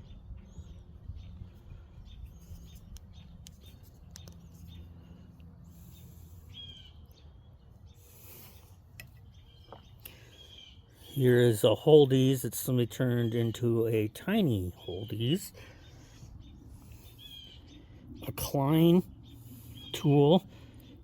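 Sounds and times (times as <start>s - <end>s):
faint bird chirps: 0.0s - 11.4s, 14.3s - 21.0s.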